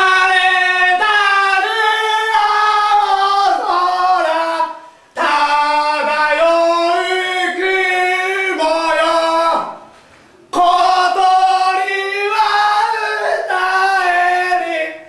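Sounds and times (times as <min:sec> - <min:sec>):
man singing high strained notes: 0:00.0 - 0:09.9, 0:10.5 - 0:15.0.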